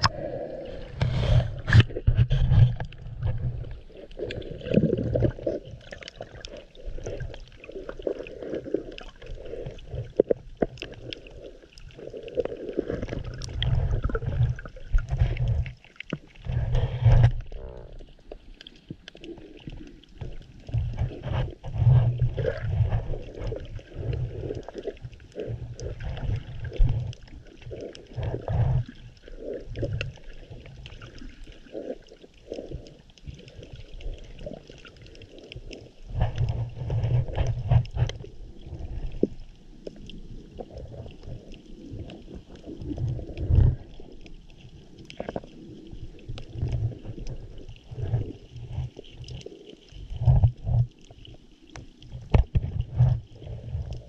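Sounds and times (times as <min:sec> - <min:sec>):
underwater gurgling and sloshing: 0:00.0 - 0:54.0.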